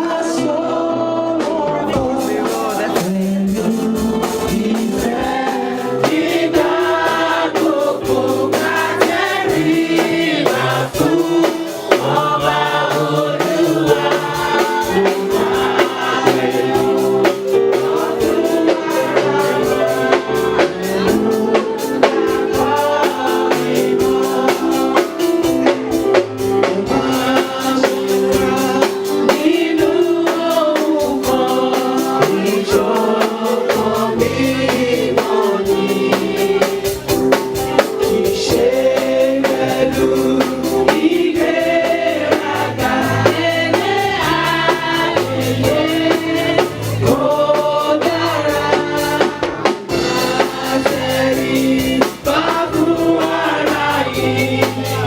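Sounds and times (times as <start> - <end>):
choir and congregation singing: 0.0 - 55.0
drum kit: 0.0 - 55.0
keyboard: 0.0 - 55.0.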